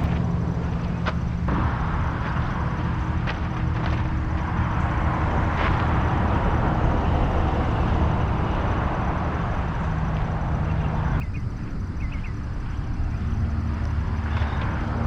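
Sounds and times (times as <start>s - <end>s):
vehicle rumble and road noise: 0.0s - 15.0s.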